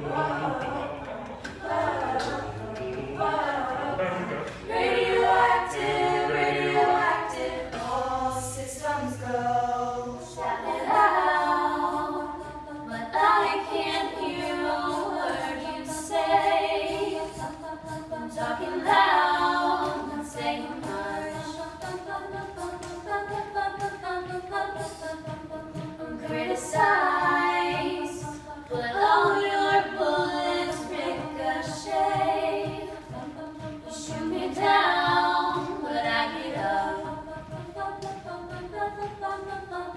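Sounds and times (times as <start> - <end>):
group singing a cappella: 0.0 - 39.9.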